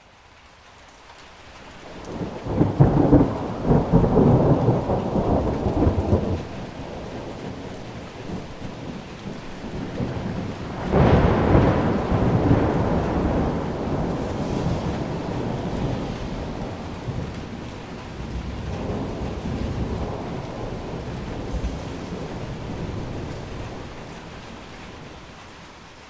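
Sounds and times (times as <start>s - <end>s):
rain hiss: 0.0s - 26.0s
thunder rumbling: 1.8s - 25.7s.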